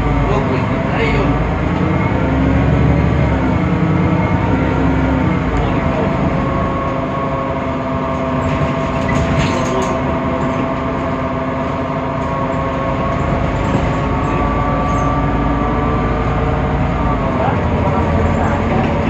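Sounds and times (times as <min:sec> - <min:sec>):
bus engine and gearbox whine: 0:00.0 - 0:19.0.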